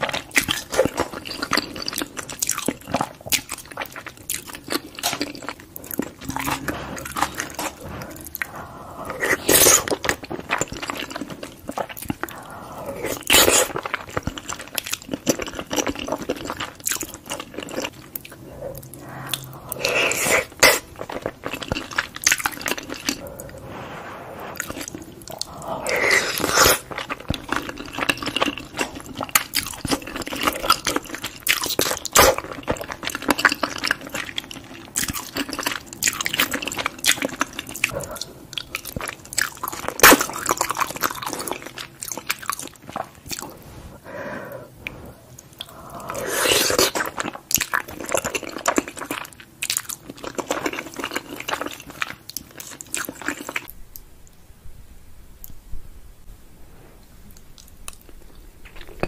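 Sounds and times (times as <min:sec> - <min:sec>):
close chewing mouth sounds: 0:00.0 - 0:23.6, 0:24.4 - 0:43.9, 0:44.6 - 0:53.8, 0:57.4 - 0:59.0.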